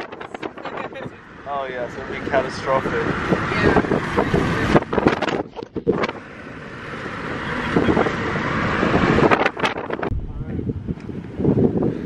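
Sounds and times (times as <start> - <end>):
road and wind noise in car: 0.0 - 12.0.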